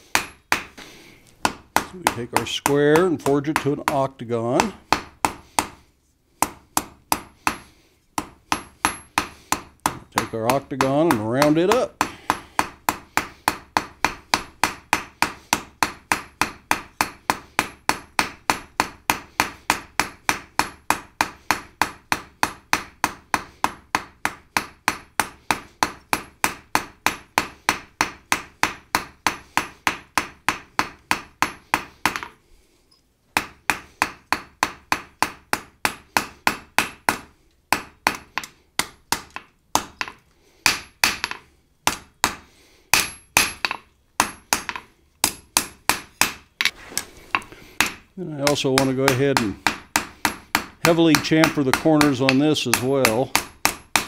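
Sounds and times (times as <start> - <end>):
hammer striking steel on anvil: 6.4 - 32.4, 33.4 - 54.0.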